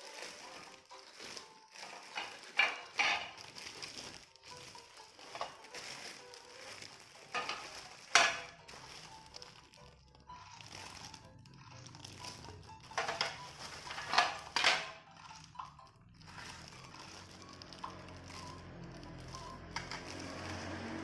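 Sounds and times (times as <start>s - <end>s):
plastic packaging rustling: 0.0s - 21.0s
sharp plastic crackles: 0.0s - 21.0s.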